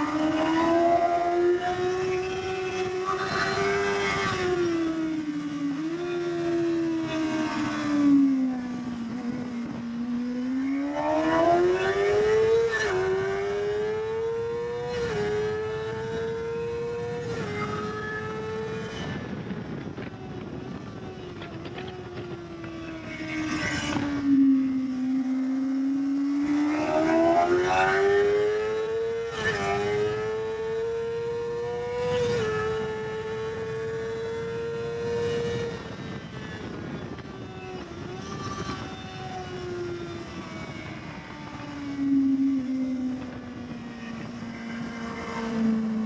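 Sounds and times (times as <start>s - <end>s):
motorcycle engine revving: 0.0s - 37.3s.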